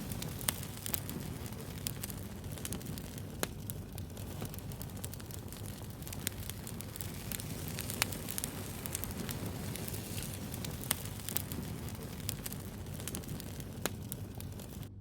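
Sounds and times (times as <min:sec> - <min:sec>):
bonfire flames rumbling: 0:00.0 - 0:15.0
fire crackles and pops: 0:00.0 - 0:15.0.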